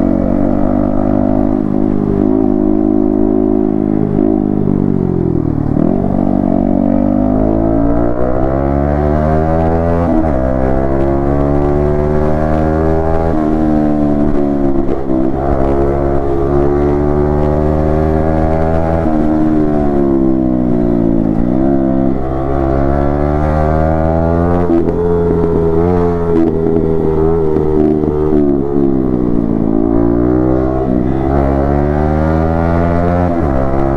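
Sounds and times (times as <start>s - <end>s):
motorcycle engine and exhaust: 0.0s - 33.9s.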